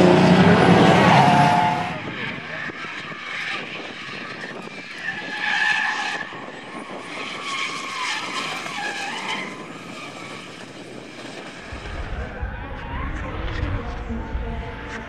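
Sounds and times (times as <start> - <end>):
car engines revving high: 0.0 - 15.0.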